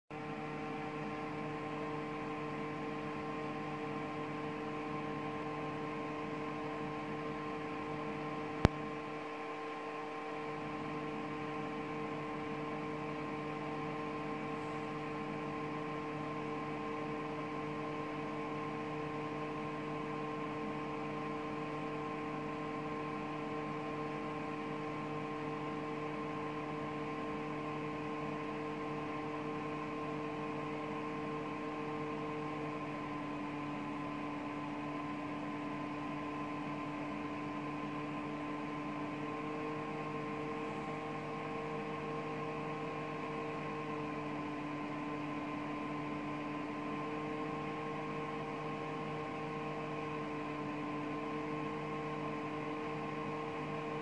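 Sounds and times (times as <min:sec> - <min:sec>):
electrical hum with hiss: 0:00.2 - 0:54.0.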